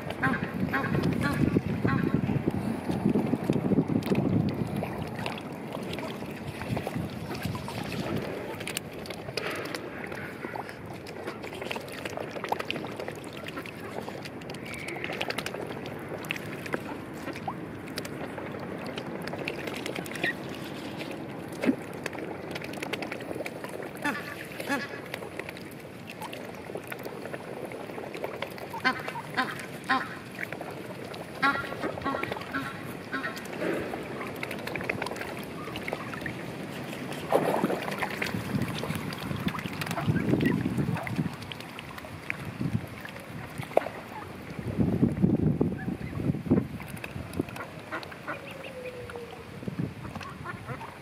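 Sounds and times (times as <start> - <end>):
wet dabbling of swans: 0.0 - 51.0.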